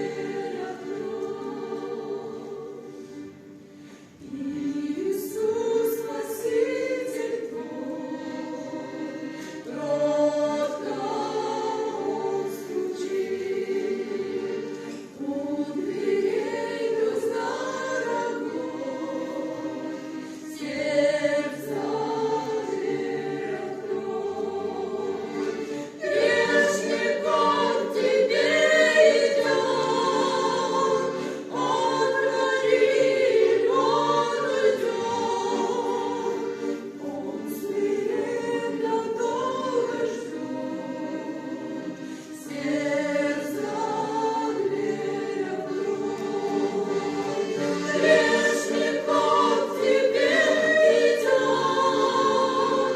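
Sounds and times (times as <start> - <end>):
choir singing a hymn: 0.0 - 52.9.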